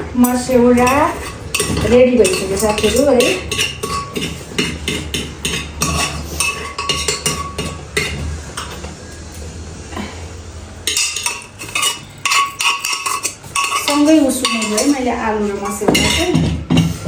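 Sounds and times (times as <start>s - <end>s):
metal spoon scraping a pot: 0.2s - 9.3s, 10.8s - 17.0s.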